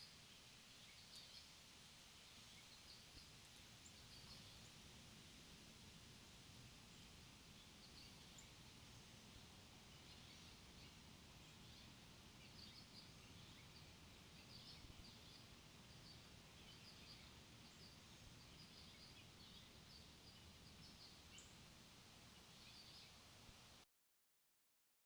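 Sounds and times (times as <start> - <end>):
small birds chirping: 0.0 - 5.8, 6.6 - 23.7.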